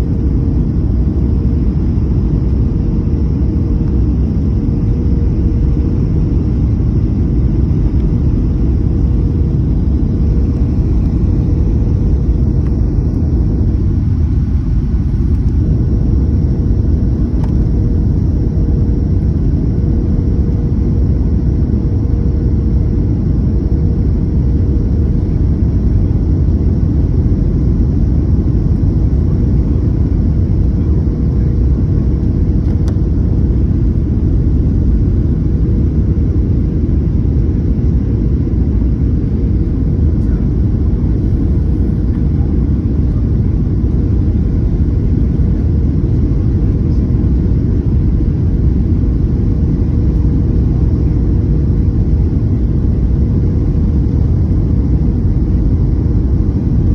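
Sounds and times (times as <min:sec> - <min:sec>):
airliner engine and airflow rumble: 0:00.0 - 0:56.9
faint steady hum: 0:00.0 - 0:56.9.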